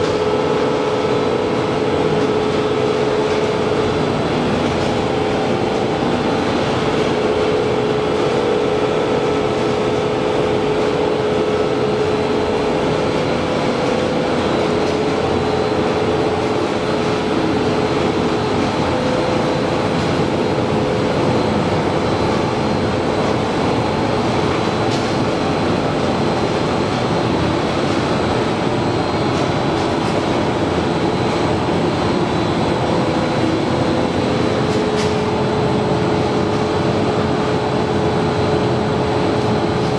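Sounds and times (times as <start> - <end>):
production line machinery humming: 0.0 - 39.9.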